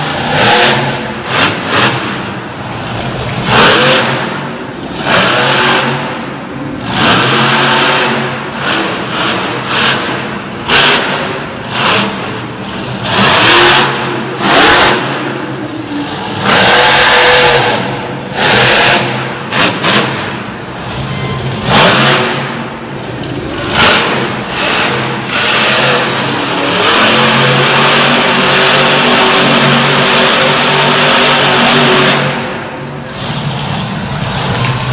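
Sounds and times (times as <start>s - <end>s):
monster truck engine revving: 0.0s - 34.9s.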